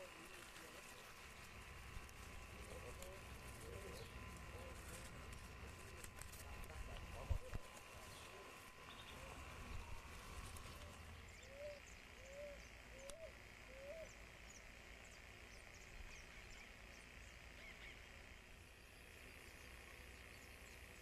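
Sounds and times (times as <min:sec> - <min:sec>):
faint low bird calls: 0:00.0 - 0:21.0
low hum: 0:00.0 - 0:21.0.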